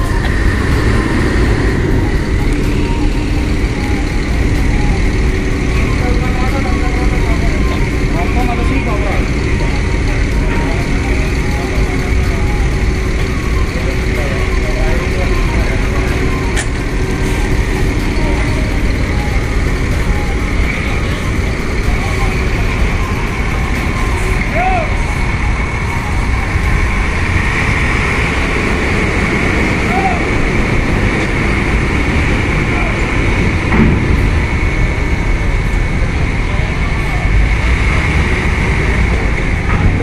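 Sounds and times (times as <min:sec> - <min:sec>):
bus diesel engine rumbling: 0:00.0 - 0:40.0.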